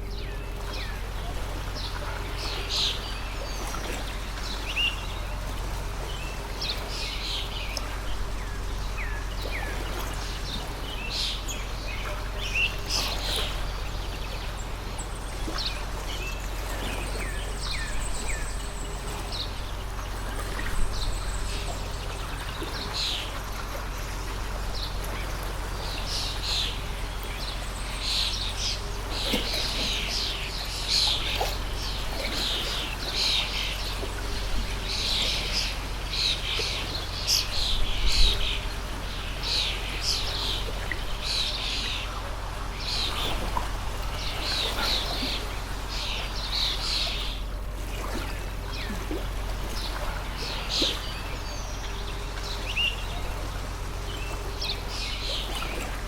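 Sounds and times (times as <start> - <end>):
small birds chirping: 0.0 - 56.0
stream rushing: 0.0 - 56.0.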